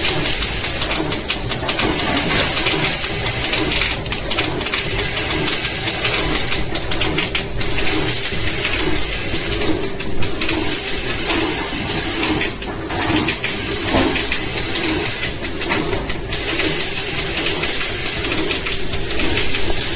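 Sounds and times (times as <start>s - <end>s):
machine clicks: 0.0s - 19.9s
packaging machine whirring: 0.0s - 19.9s.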